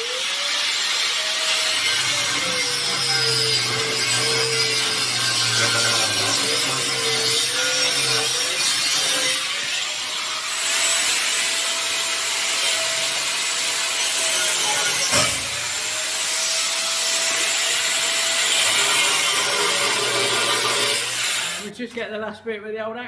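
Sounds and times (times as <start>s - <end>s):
power tool cutting steel tube: 0.0s - 21.7s.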